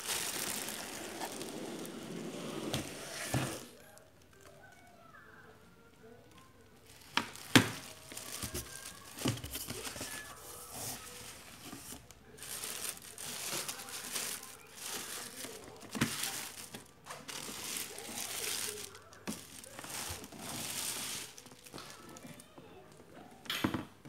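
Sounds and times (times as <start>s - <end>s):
plastic wrap crinkling and tearing: 0.0s - 4.6s, 6.8s - 22.5s.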